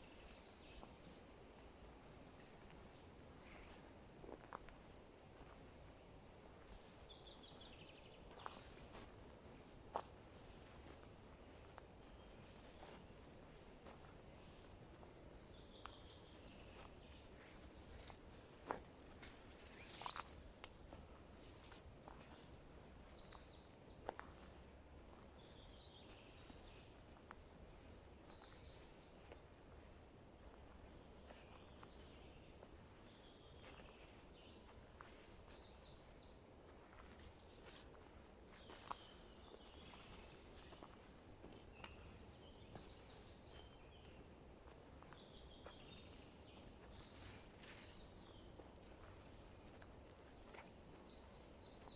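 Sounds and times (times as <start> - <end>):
songbird singing: 0.0 - 1.7, 5.4 - 51.9
faint forest ambience: 0.0 - 51.9
distant birdsong: 5.5 - 51.9.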